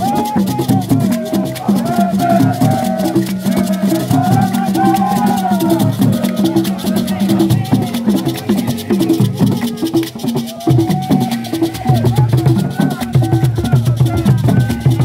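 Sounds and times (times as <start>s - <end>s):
barrel drums fast rhythm: 0.0s - 15.0s
group of voices singing: 0.0s - 15.0s
handclaps: 0.0s - 15.0s
shaken rattles: 0.0s - 15.0s.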